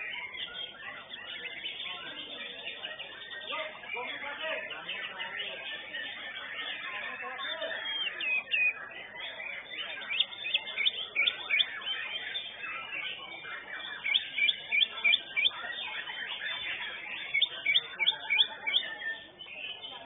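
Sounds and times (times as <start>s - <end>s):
bird singing high chirps and whistles: 0.0s - 20.0s.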